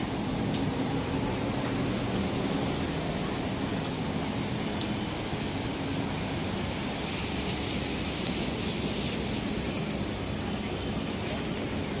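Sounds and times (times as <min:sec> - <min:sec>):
low hum of vehicles: 0:00.0 - 0:12.0
rain hissing: 0:00.0 - 0:12.0
traffic on wet pavement: 0:00.0 - 0:12.0.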